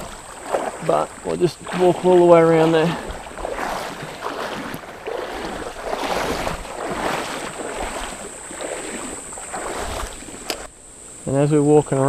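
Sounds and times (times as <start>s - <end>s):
footsteps splashing through water: 0.0s - 10.7s.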